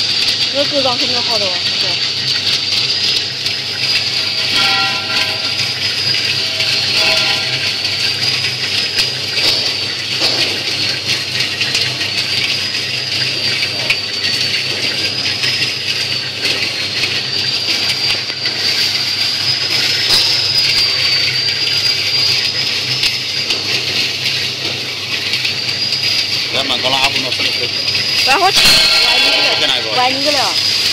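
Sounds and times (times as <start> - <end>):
high wavering whine: 2.8 - 10.5, 12.6 - 30.9.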